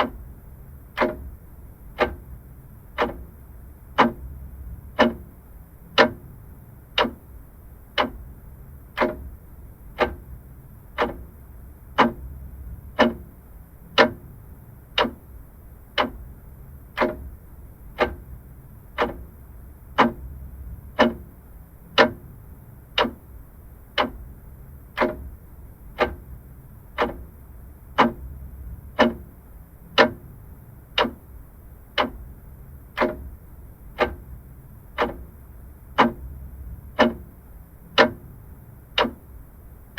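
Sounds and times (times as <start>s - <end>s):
low background hum: 0.0s - 39.9s
mechanical clock ticking: 0.0s - 39.9s.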